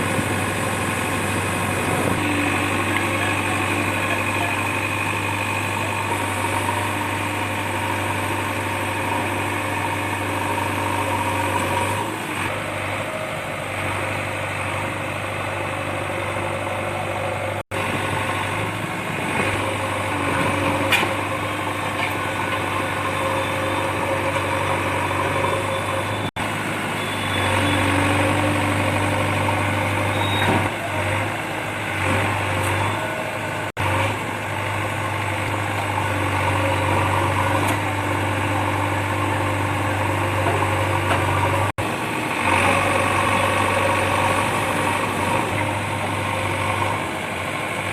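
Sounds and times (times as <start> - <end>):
diesel engines idling: 0.0 - 47.9.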